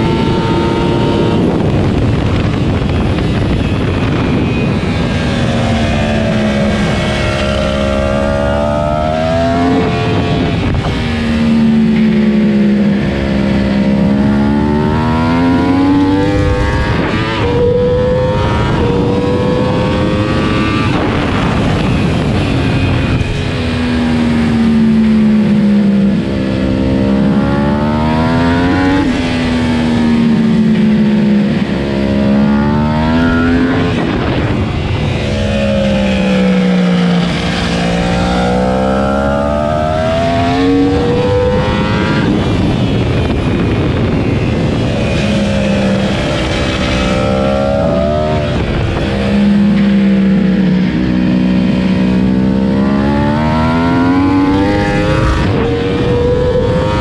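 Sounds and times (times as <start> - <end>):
motorcycle engine at racing speed: 0.0 - 57.0.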